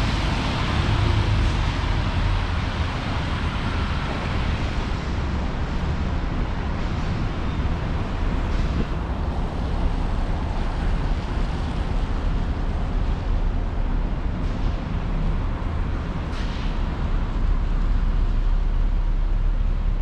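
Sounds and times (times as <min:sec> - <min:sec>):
passing traffic: 0:00.0 - 0:20.0
wind rumble on microphone: 0:00.0 - 0:20.0.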